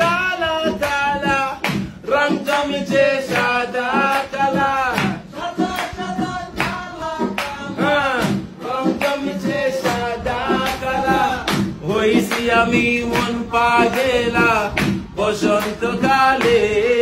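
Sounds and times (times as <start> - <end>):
man singing long notes: 0.0 - 17.0
regular drum beat: 0.0 - 17.0.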